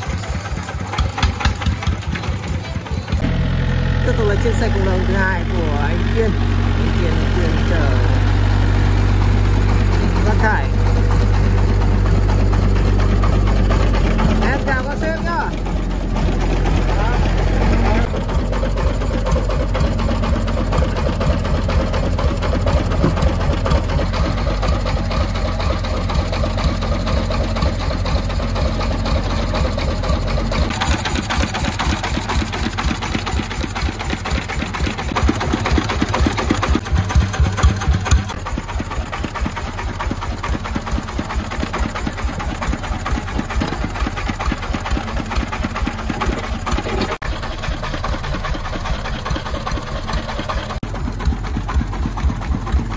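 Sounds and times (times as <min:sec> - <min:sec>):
diesel engine chugging: 0:00.0 - 0:52.9.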